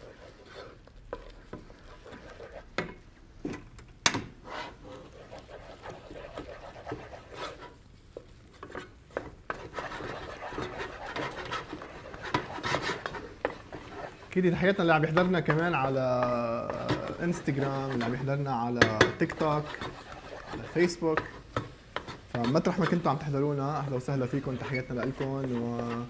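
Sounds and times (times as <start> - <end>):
spoon stirring thick dough: 0.0 - 3.2, 4.3 - 26.0.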